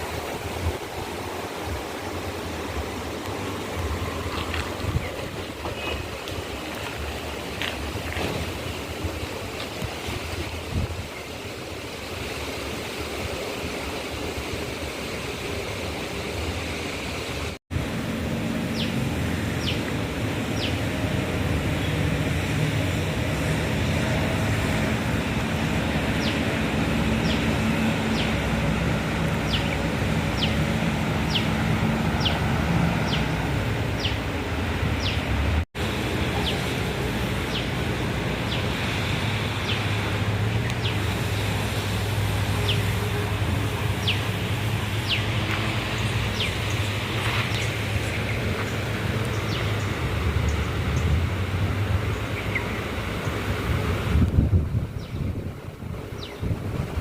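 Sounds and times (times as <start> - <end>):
outdoor noise: 0.0 - 57.0.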